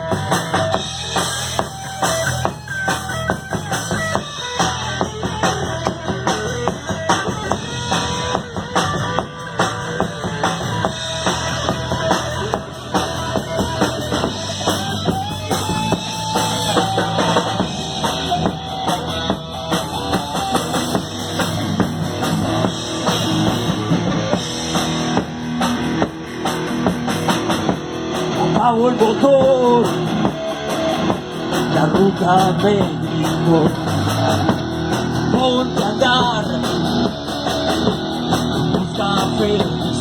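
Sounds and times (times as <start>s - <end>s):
bass guitar: 0.0s - 40.0s
drum kit: 0.0s - 40.0s
electric guitar: 0.0s - 40.0s.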